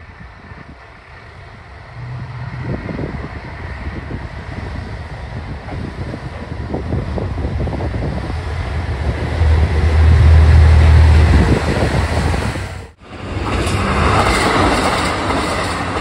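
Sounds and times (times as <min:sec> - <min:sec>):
diesel railcar engine: 0:00.0 - 0:16.0.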